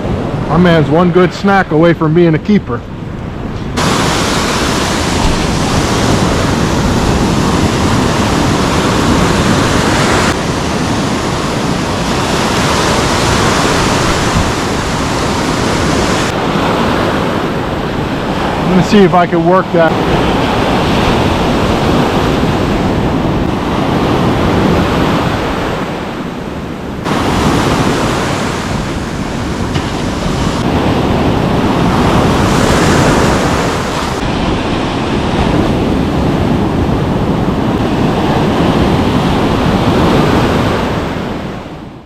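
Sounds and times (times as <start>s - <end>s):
ocean surf breaking on beach: 0.0s - 42.0s
wind buffeting microphone: 0.0s - 42.0s.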